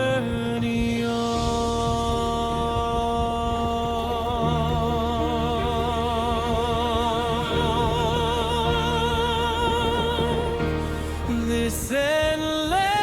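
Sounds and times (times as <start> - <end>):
steady bass line: 0.0 - 12.3
person singing with vibrato: 0.0 - 13.0.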